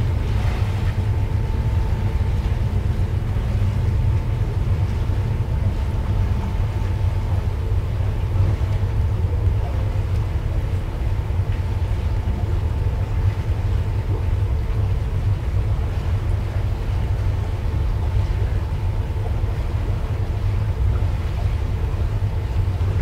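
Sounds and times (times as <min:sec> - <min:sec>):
faint machinery hum: 0:00.0 - 0:23.0
ship engine rumble: 0:00.0 - 0:23.0.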